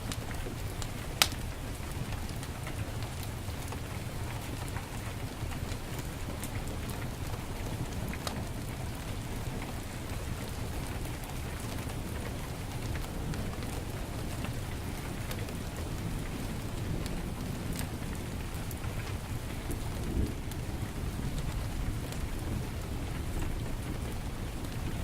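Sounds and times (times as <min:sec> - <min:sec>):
heavy rain falling: 0:00.0 - 0:25.0
wood fire crackling: 0:00.0 - 0:25.0.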